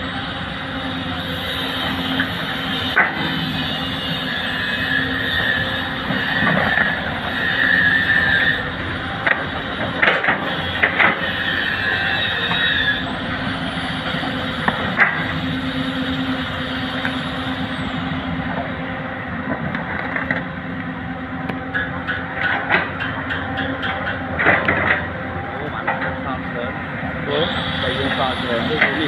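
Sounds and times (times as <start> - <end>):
diesel machinery engines running: 0.0 - 29.0.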